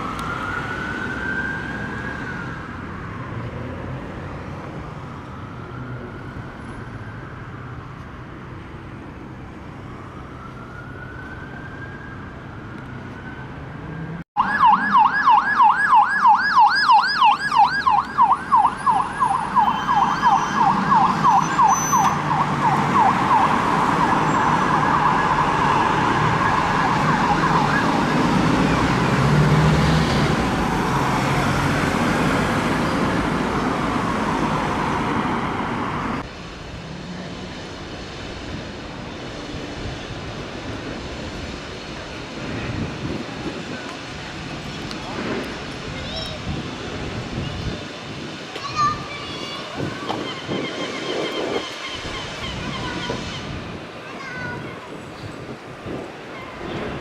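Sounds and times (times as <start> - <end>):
emergency vehicle siren: 0.0 - 45.8
road traffic: 0.0 - 57.0.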